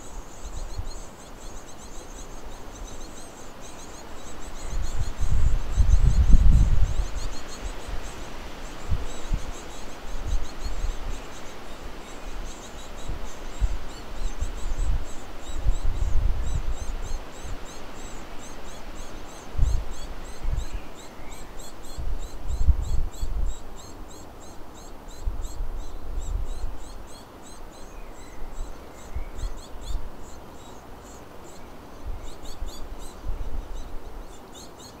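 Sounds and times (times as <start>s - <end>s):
small songbirds chirping: 0.0s - 35.0s.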